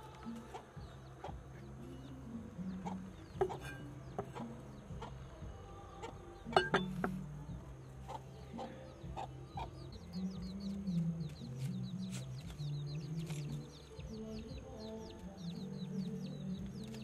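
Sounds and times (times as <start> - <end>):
chickens clucking: 0.0 - 17.0
small birds chirping: 0.0 - 17.0.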